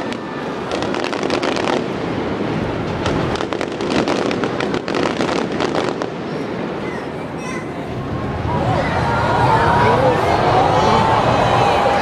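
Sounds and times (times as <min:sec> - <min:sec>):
fireworks cracking and banging: 0:00.0 - 0:10.5
continuous loud din: 0:00.0 - 0:12.0.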